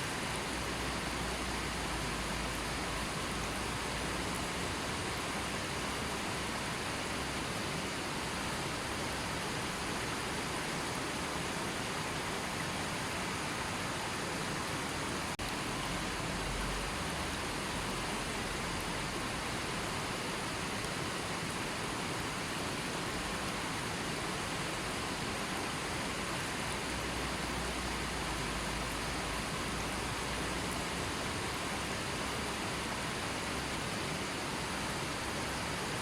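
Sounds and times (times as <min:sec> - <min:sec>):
river water flowing: 0:00.0 - 0:36.0.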